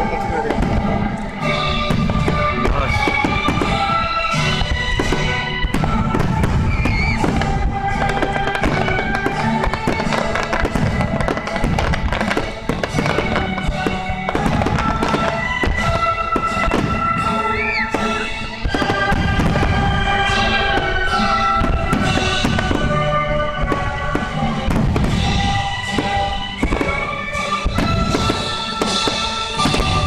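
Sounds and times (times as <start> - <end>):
fireworks booming and crackling: 0.0 - 30.0
music: 0.0 - 30.0.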